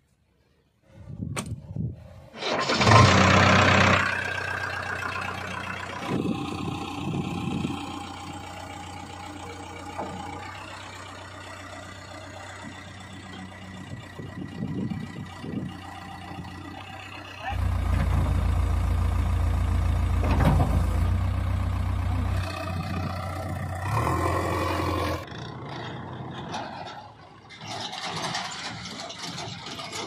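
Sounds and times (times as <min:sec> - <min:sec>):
diesel engine starting and idling: 0:02.2 - 0:30.0.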